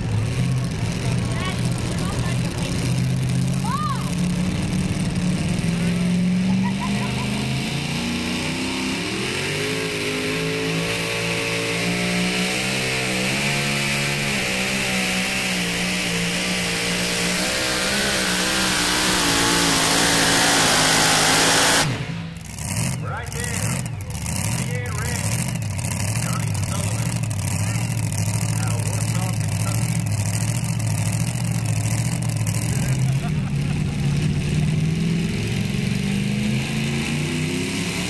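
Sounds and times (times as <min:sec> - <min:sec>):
supercharged truck engine revving: 0:00.0 - 0:38.0.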